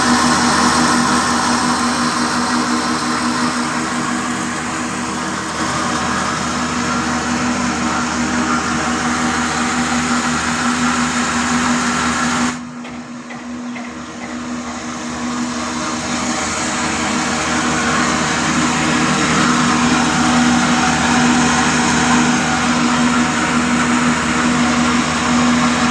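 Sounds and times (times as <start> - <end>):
diesel engine running steadily: 0.0 - 25.9.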